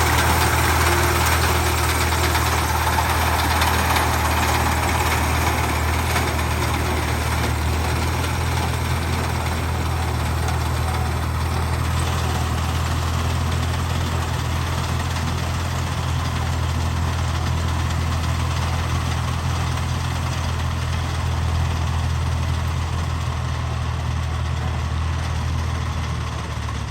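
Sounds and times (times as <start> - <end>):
tractor diesel engine running: 0.0 - 26.9.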